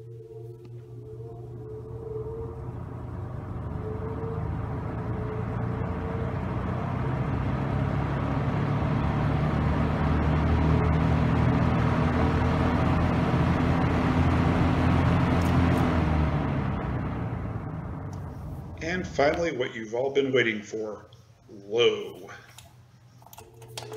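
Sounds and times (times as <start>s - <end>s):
box fan motor hum: 0.0s - 20.3s.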